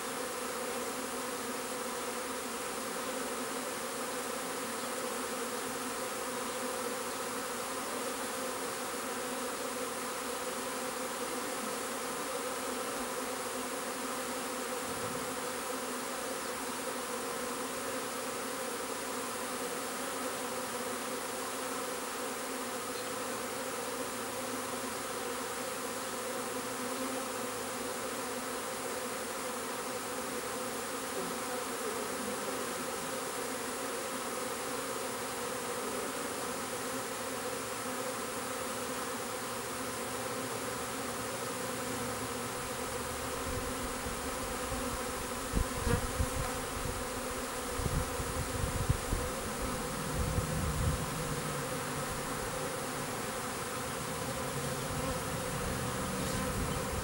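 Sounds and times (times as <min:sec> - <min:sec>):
bee swarm buzzing: 0:00.0 - 0:57.0.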